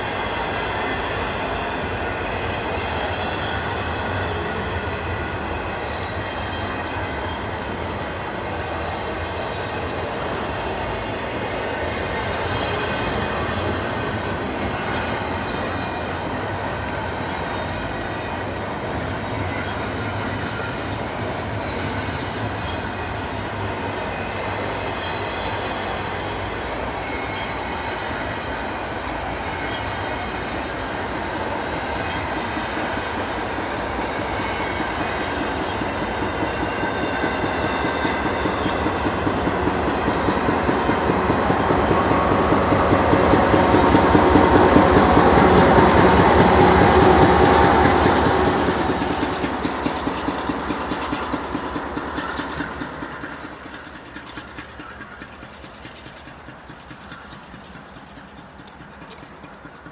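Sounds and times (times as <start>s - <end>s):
train wheels clicking over rails: 0.0s - 59.9s.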